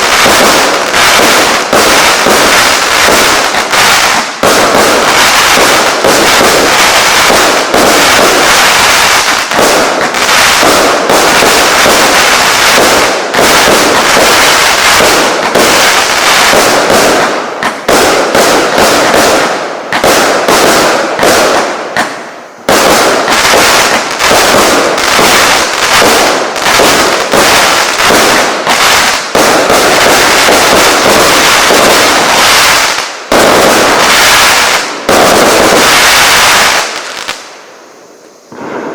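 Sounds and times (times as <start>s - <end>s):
fireworks popping and crackling: 0.0s - 38.9s.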